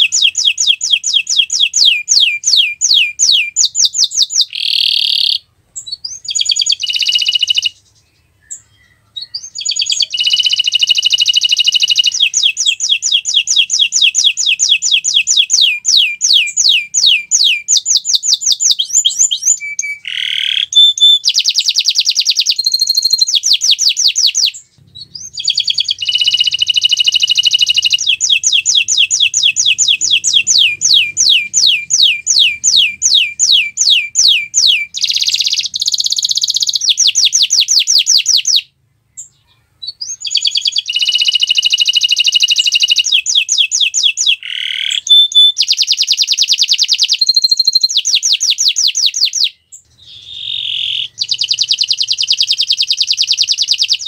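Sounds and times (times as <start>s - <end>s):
canary trilling song: 0.0s - 54.0s.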